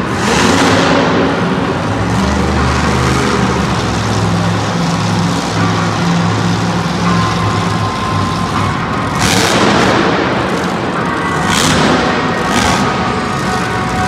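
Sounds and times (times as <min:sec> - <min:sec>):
loud rough engine blasts: 0:00.0 - 0:14.0
truck engine running: 0:00.0 - 0:14.0.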